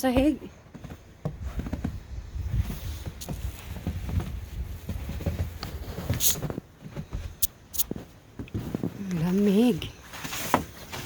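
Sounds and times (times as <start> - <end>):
footsteps crunching through snow: 0.0 - 11.0.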